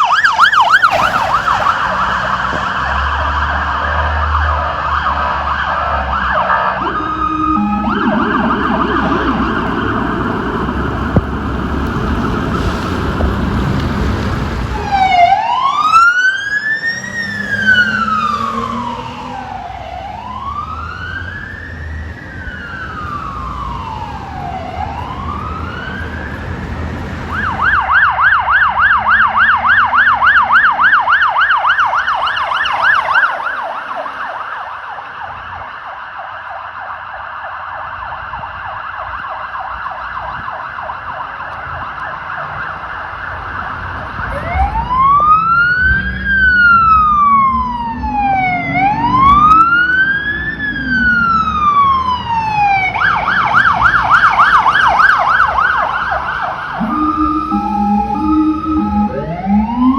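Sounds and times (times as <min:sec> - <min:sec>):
police siren wailing and yelping: 0:00.0 - 0:59.9
road traffic rumble: 0:00.0 - 0:59.9.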